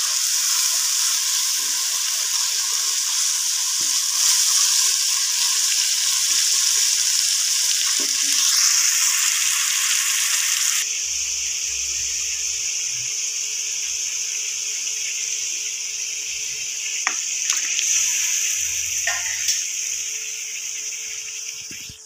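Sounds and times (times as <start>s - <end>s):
sauce sizzling in oil: 0.0s - 22.0s.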